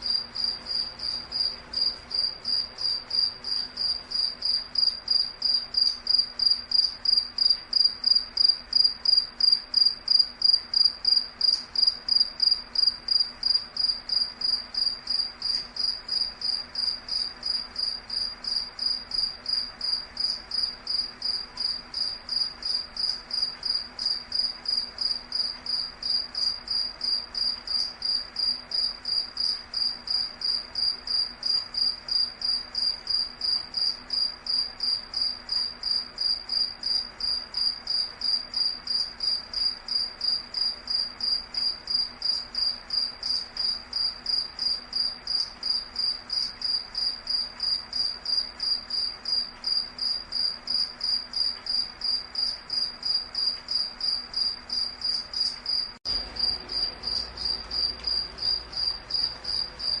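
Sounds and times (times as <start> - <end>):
cricket chirping: 0.0 - 60.0.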